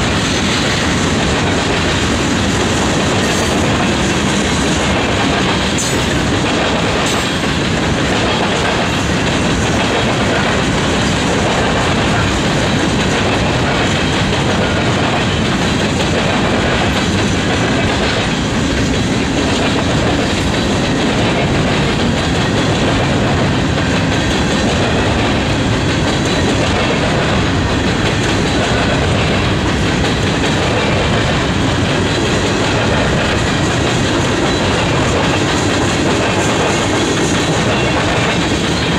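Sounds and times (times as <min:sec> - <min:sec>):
steel wheels rumbling on rail: 0:00.0 - 0:38.9.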